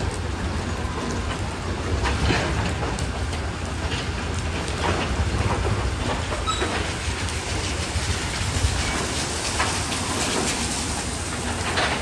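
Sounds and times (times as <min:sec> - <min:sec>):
steel tracks clanking: 0:00.6 - 0:12.0.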